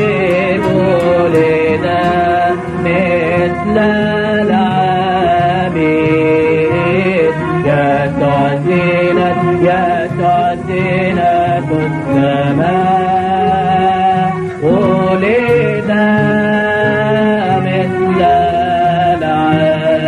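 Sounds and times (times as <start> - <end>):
man chanting a hymn: 0.0 - 20.0.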